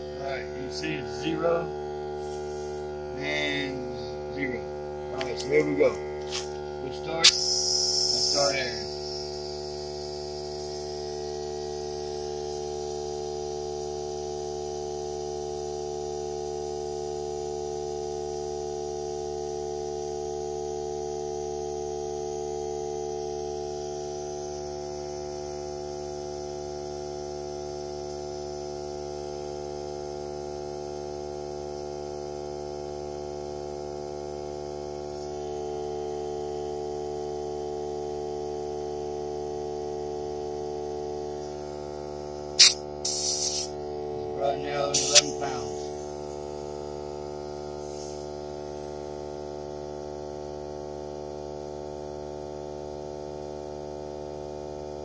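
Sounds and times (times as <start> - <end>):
air compressor humming: 0.0 - 27.0, 34.1 - 53.6.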